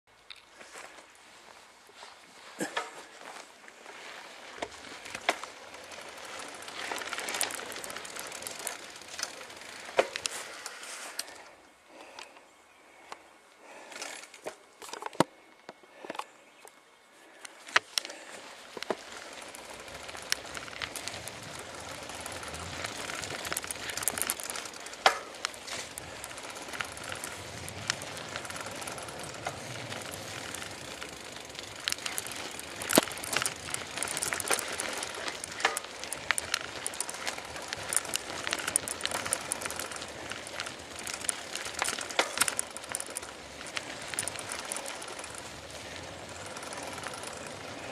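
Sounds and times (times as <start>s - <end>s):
bicycle tyres rolling on dirt: 0.1s - 47.9s
bike clicks and knocks: 0.2s - 0.6s, 2.6s - 3.3s, 4.4s - 12.5s, 13.9s - 16.8s, 17.4s - 47.9s.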